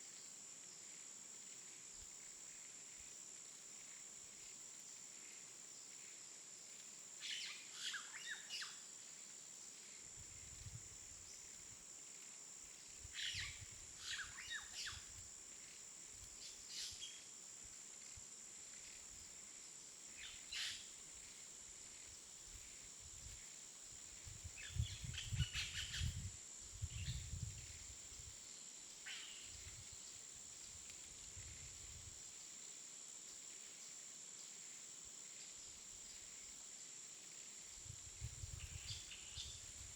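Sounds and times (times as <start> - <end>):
high insect drone: 0.1 - 39.9.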